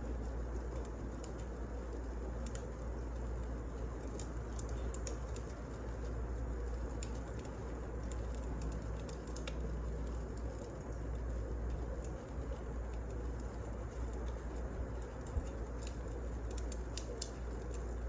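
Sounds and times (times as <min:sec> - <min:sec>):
fire crackling and popping: 0:00.0 - 0:18.0
low rumble of fire: 0:00.0 - 0:18.0.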